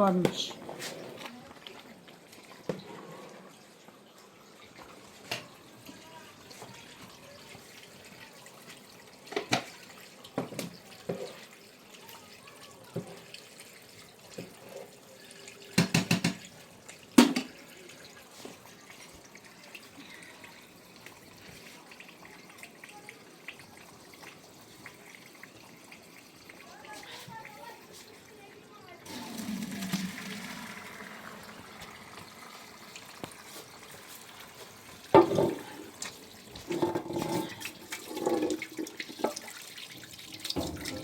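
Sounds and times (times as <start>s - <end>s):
water running and dripping: 1.2s - 41.0s.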